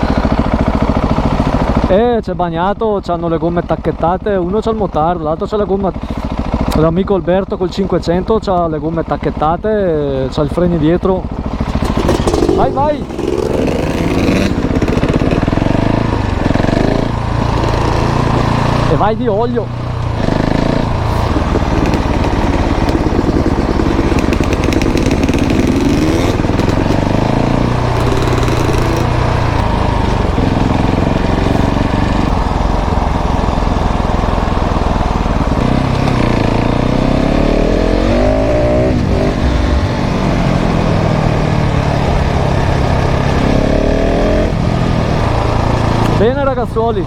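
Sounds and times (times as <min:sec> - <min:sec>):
motorcycle engine revving: 0:00.0 - 0:02.3, 0:03.1 - 0:47.0.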